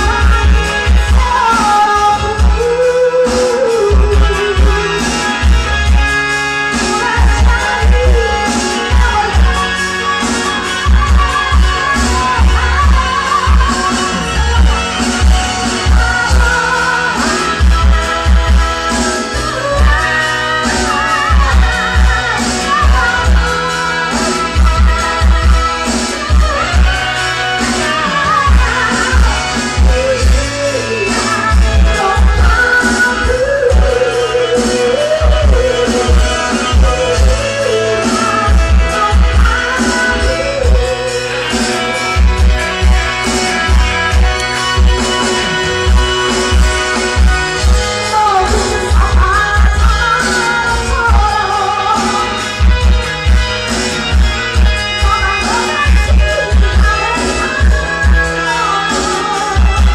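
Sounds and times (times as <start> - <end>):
backing music with heavy bass beat: 0.0 - 59.9
woman singing through microphone: 0.0 - 59.9.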